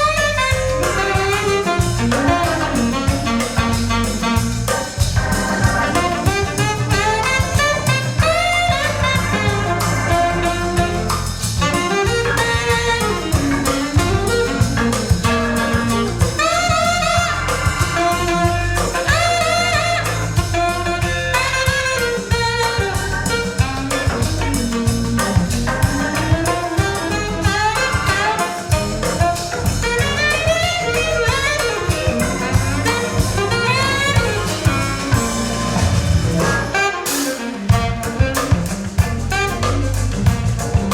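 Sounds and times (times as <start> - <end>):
jazz with horns bass and drums: 0.0 - 40.9.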